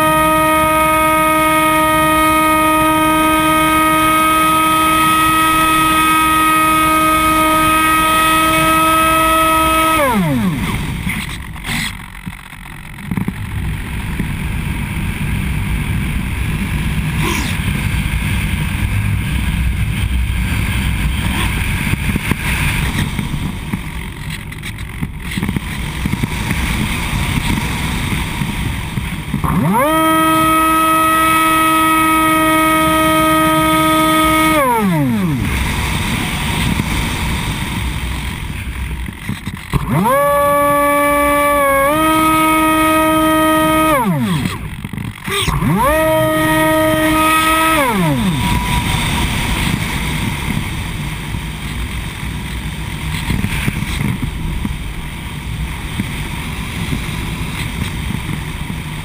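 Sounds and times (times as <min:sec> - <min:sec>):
electric motor whine: 0:00.0 - 0:54.4
wind rumbling on microphone: 0:00.0 - 0:59.0.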